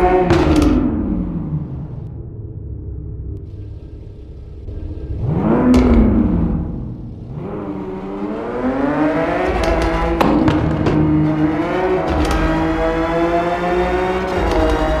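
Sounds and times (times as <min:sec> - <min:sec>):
sharp exhaust pops: 0:00.0 - 0:02.0, 0:03.4 - 0:15.0
car engine revving: 0:00.0 - 0:15.0.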